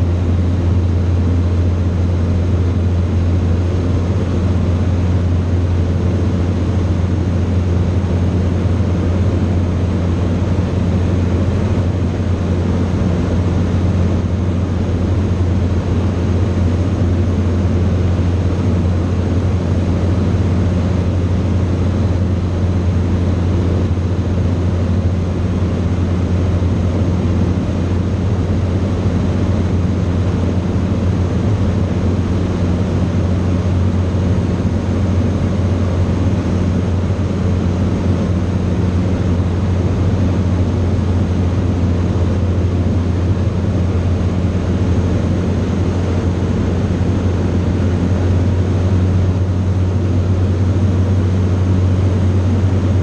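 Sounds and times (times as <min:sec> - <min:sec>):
aircraft engine drone: 0:00.0 - 0:53.0.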